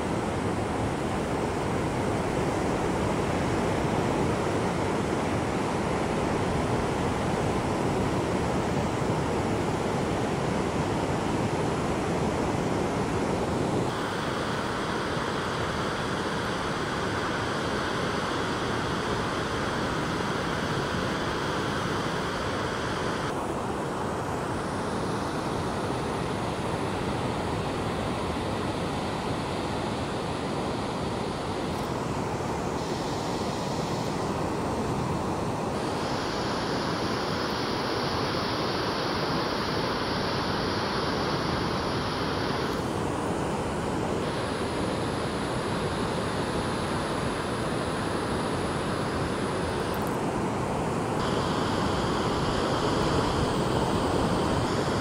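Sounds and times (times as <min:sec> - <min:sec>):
ocean surf breaking on a beach: 0:00.0 - 0:55.0.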